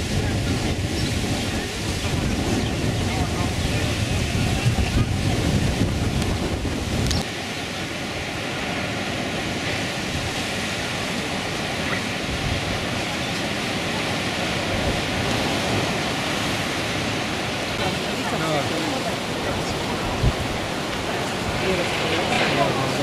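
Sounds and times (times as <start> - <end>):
sea surf on rocky shore: 0.0 - 23.0.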